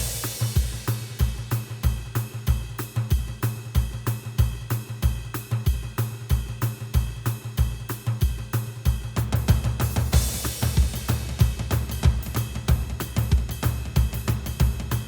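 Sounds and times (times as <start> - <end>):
drum beat with hi-hat: 0.0 - 15.0.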